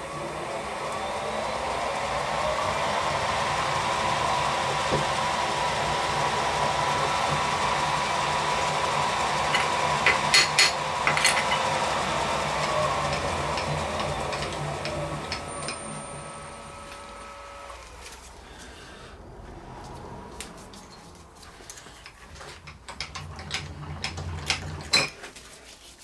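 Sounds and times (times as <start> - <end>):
drill spindle whining: 0.0 - 18.6, 21.7 - 25.0.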